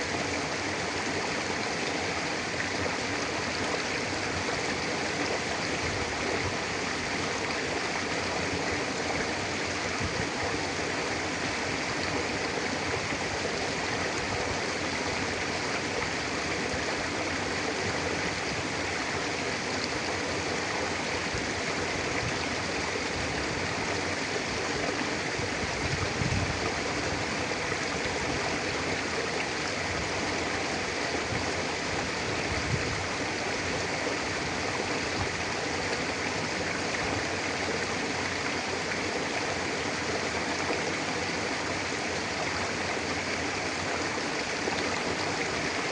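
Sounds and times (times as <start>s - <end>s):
river flowing over rocks: 0.0s - 45.9s.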